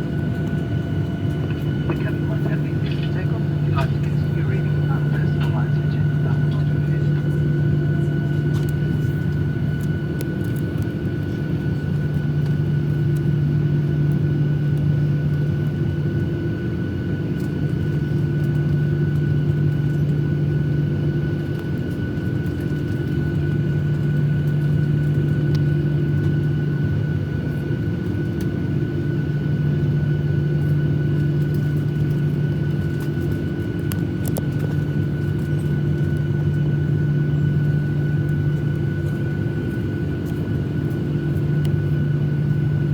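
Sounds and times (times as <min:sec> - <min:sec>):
airliner cabin engine drone: 0:00.0 - 0:42.9
faint steady whine: 0:00.0 - 0:42.9.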